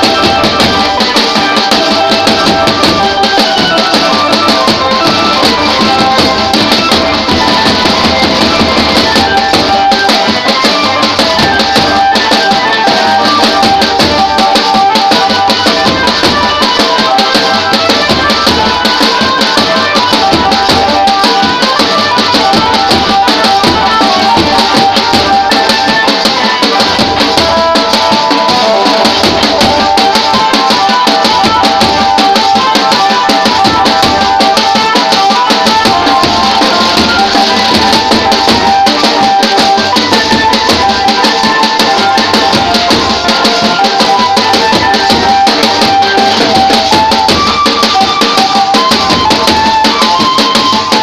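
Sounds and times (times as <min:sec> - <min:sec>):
amplified banjo melody: 0:00.0 - 0:51.0
fast busy drums: 0:00.0 - 0:51.0.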